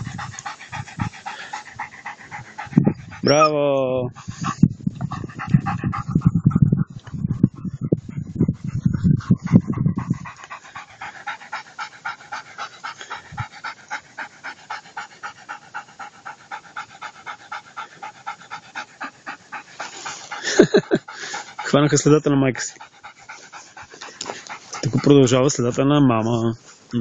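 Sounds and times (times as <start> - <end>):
dog panting rapidly: 0.0 - 26.9.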